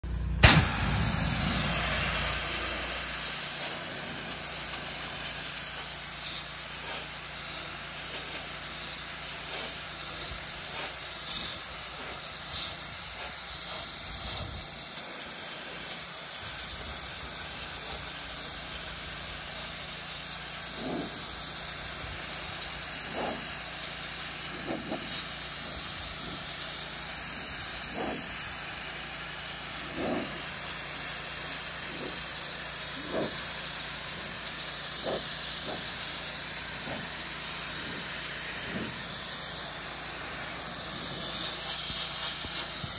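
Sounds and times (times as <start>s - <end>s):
pressure washer engine humming: 0.0s - 42.9s
pressure washer jet spraying: 0.0s - 42.9s.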